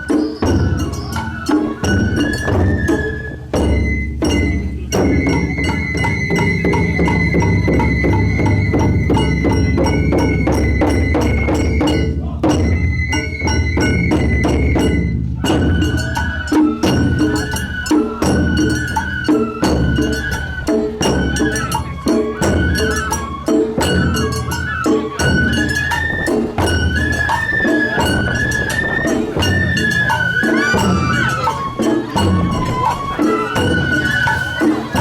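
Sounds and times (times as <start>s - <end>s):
fast drum beats: 0.0s - 35.0s
high bamboo flute melody: 0.0s - 35.0s.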